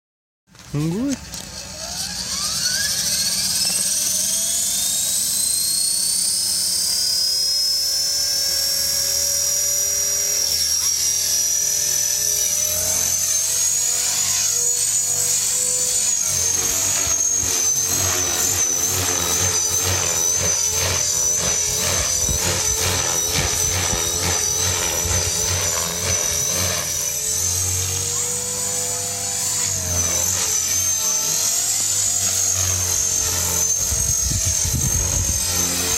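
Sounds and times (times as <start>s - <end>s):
rc helicopter motor whining: 0.5s - 35.9s
rotor blade chop: 0.5s - 35.9s.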